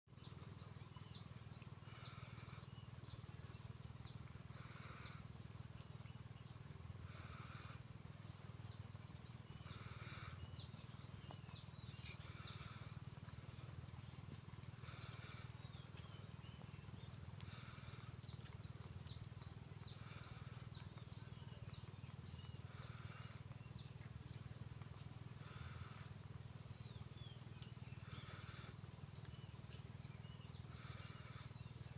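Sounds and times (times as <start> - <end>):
insect trilling: 0.2 - 31.9.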